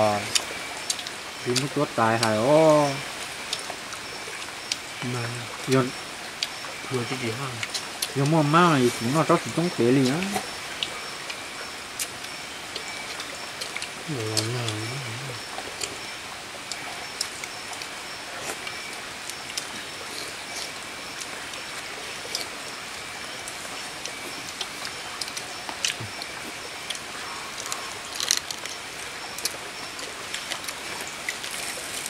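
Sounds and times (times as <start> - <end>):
faint high steady tones: 0.0 - 32.0
outdoor night hiss: 0.0 - 32.0.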